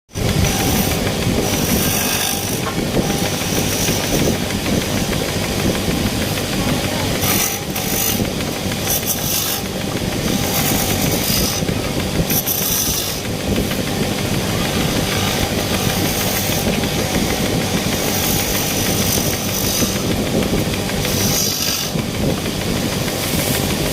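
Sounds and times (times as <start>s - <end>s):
woodworking machine cutting wood: 0.1s - 23.9s.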